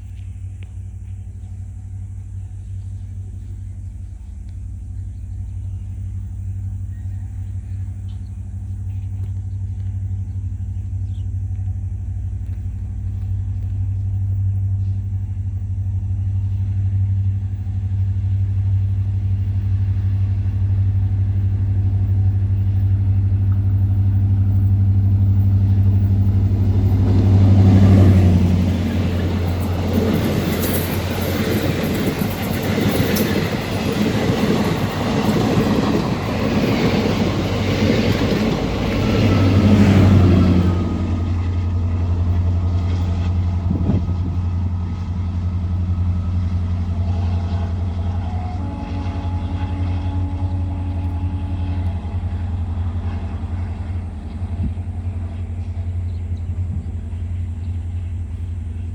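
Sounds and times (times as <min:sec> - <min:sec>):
faint steady tones: 0:00.0 - 0:58.9
rush of train noise: 0:00.0 - 0:58.9
train engine hum: 0:00.0 - 0:58.9.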